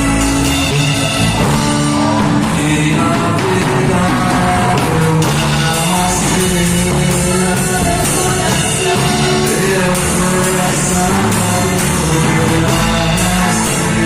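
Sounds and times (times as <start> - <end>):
drums and cymbals: 0.0 - 14.0
electric guitar: 0.0 - 14.0
singing: 0.0 - 14.0.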